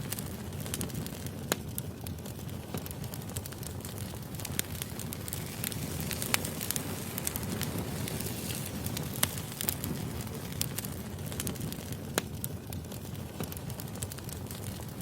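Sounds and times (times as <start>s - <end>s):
fire rumbling: 0.0s - 15.0s
wood popping and crackling: 0.0s - 15.0s.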